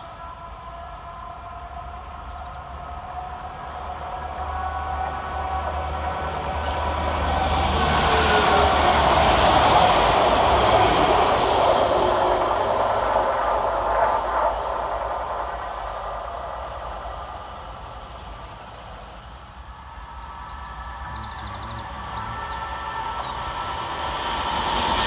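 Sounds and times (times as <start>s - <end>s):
train wheels on rails: 2.9s - 25.0s.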